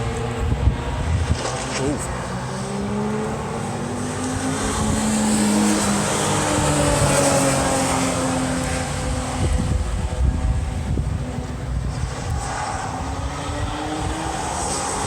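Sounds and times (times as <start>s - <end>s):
distant race car engines: 0.0s - 15.0s
wind rumbling on microphone: 0.0s - 15.0s.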